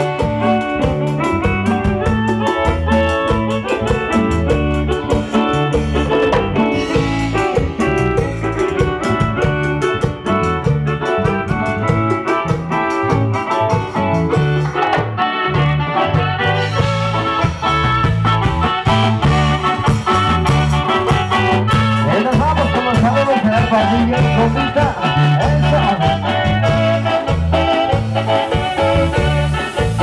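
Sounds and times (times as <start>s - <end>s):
live band music over a pa: 0.0s - 30.0s.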